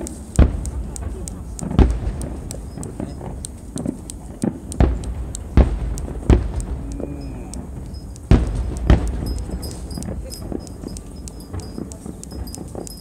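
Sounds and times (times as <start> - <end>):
distant firework booms: 0.0 - 12.8
small crackling pops: 0.0 - 13.0.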